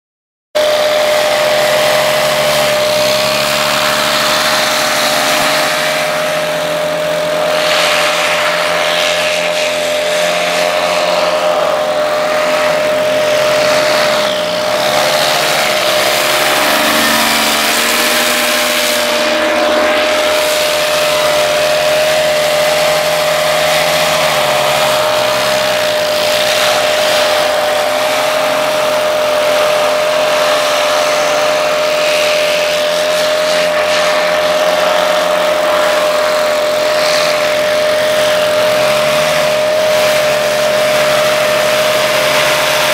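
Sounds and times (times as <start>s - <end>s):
paramotor engines buzzing: 0.6s - 42.9s
steady high tone: 0.6s - 42.9s.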